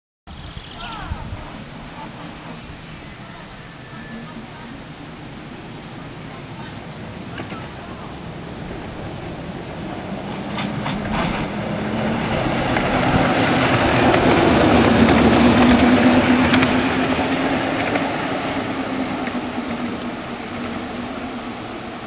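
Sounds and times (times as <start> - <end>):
electric locomotive hum: 0.3 - 22.0
wheels running on rails: 0.3 - 22.0.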